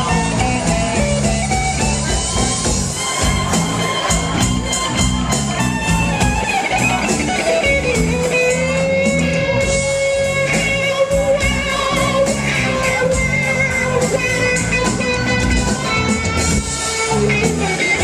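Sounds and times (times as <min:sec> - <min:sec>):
bass and drum groove: 0:00.0 - 0:18.0
slow blues electric guitar: 0:00.0 - 0:18.0.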